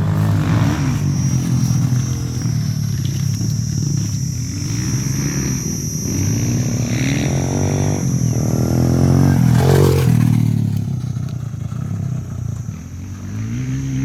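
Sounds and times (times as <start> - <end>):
motocross bike engines revving: 0.0 - 14.0
steady high-pitched whine: 0.0 - 14.0.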